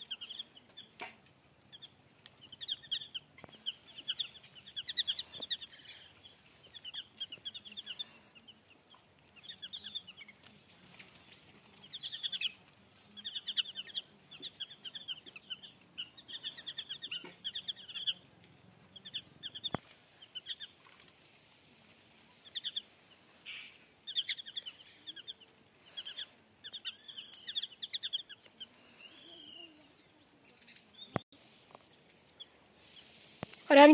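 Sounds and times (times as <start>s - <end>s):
chicks peeping: 0.0s - 21.2s, 21.9s - 33.9s.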